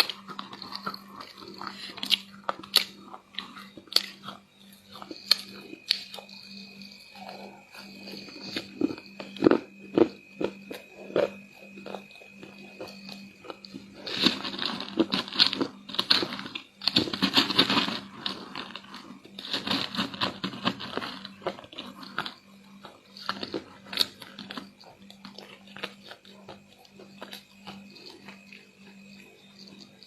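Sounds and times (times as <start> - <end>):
crunching and chewing: 0.0 - 30.0.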